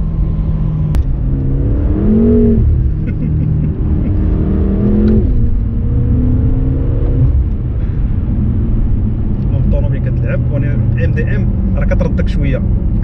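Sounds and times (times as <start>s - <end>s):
car engine accelerating: 0.0s - 13.0s
low rumble: 0.0s - 13.0s.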